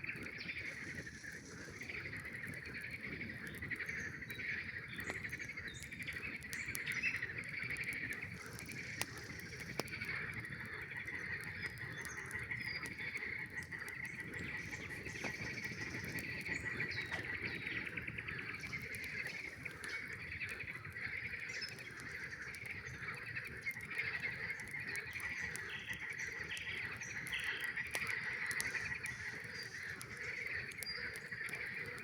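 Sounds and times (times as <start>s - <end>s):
campfire crackling: 0.0s - 32.0s
frog chorus trilling: 0.0s - 32.0s.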